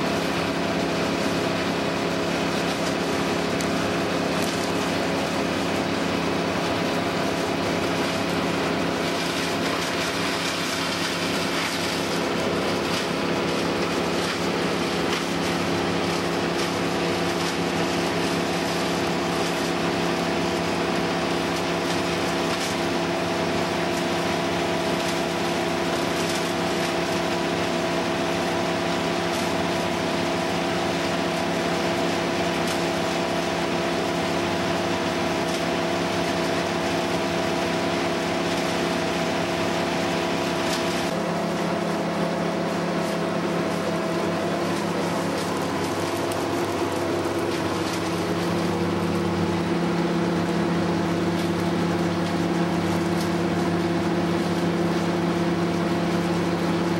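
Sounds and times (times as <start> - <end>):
machine engine running: 0.0 - 56.9.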